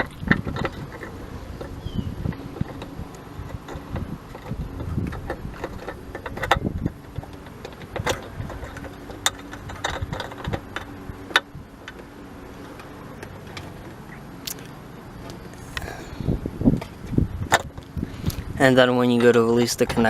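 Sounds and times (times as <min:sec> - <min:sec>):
hand tools clicking and knocking: 0:00.0 - 0:16.0, 0:16.7 - 0:20.0
steady low hum: 0:00.0 - 0:20.0.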